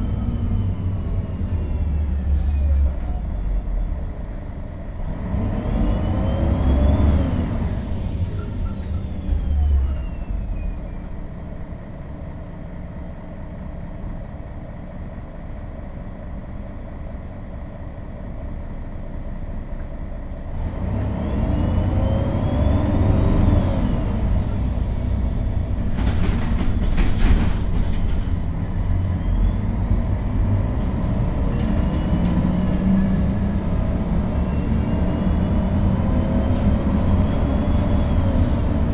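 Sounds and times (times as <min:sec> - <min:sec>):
bus diesel engine: 0:00.0 - 0:38.9.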